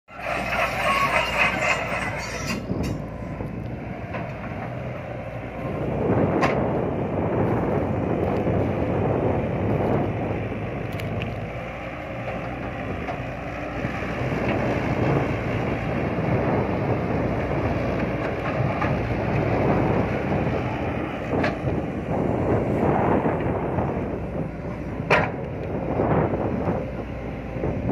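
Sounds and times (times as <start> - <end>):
excavator diesel engine running: 0.1 - 27.9.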